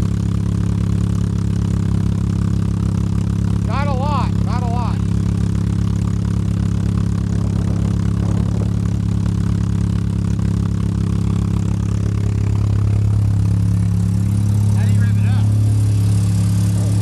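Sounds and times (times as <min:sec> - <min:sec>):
rotary engine idling: 0:00.0 - 0:17.0.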